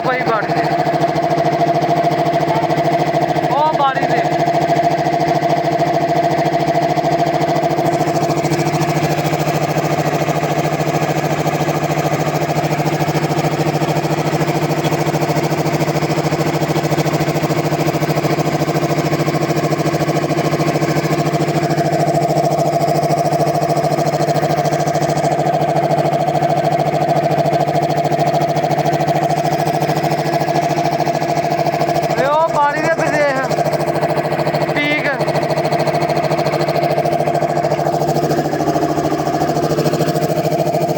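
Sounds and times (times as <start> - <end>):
air compressor running: 0.0 - 40.9.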